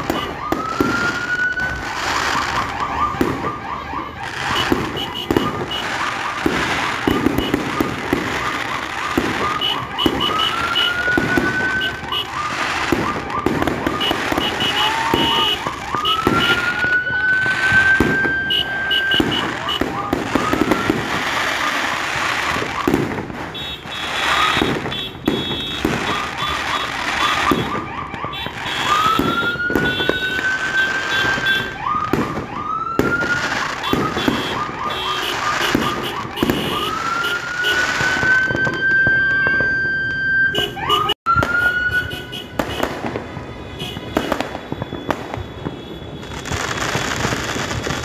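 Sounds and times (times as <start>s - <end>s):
fireworks bangs and crackling: 0.0s - 48.0s
fireworks whistles: 0.0s - 48.0s.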